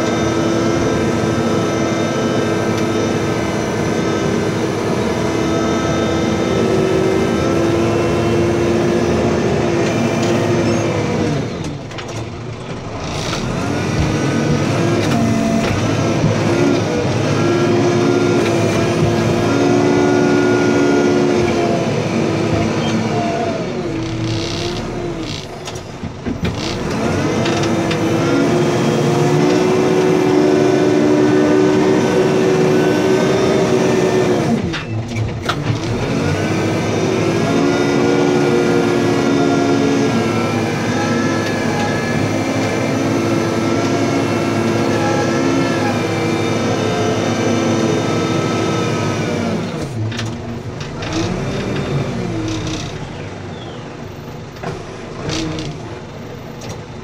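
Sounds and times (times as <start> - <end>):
diesel engine at high revs: 0.0 - 57.0.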